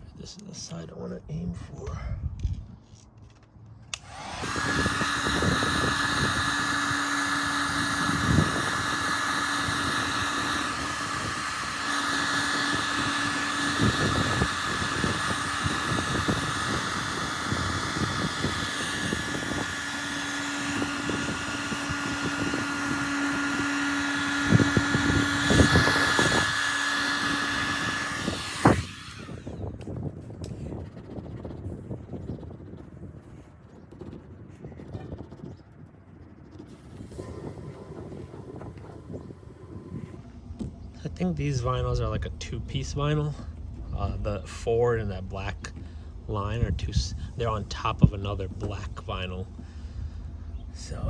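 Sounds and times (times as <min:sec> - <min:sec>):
heat gun blowing: 0:03.9 - 0:31.3, 0:36.6 - 0:51.0.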